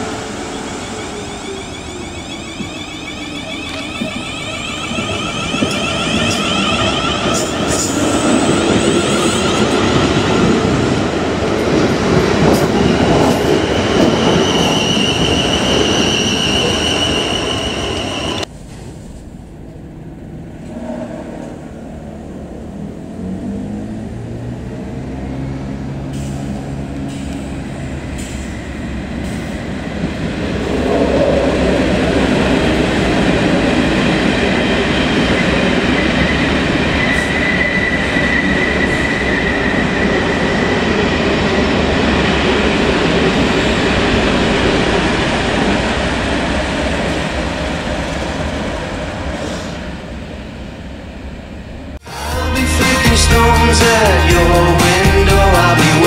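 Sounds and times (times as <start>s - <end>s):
wheel and rail noise: 0.0s - 52.0s
diesel locomotive engine: 0.0s - 56.0s
electric train whining past: 0.0s - 56.0s.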